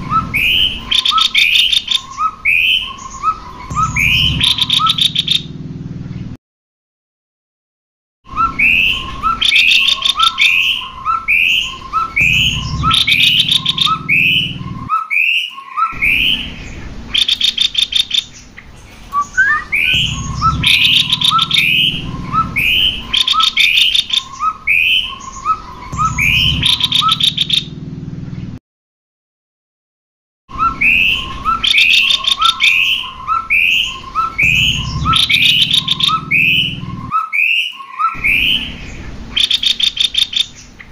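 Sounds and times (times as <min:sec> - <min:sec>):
birds calling with high trills: 0:00.0 - 0:06.4, 0:08.3 - 0:28.6, 0:30.5 - 0:40.9.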